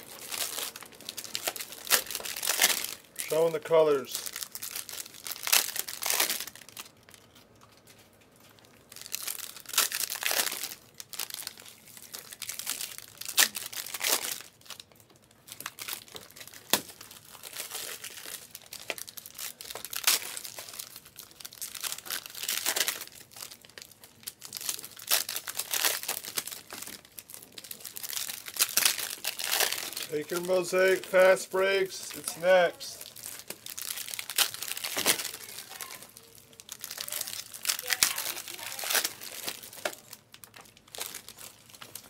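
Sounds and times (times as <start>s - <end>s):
card pack wrappers crinkling and tearing: 0.0s - 42.0s.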